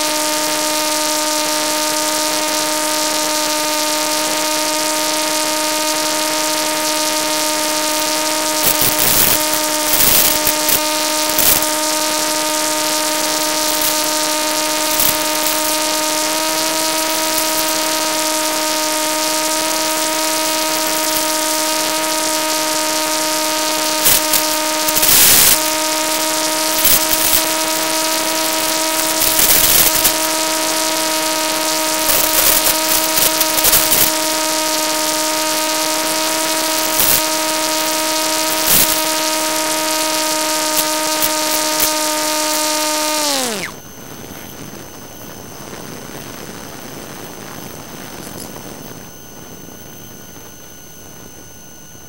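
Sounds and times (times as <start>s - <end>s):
crackle bursts: 0.0s - 52.0s
electric motor and propeller whining: 0.0s - 52.0s.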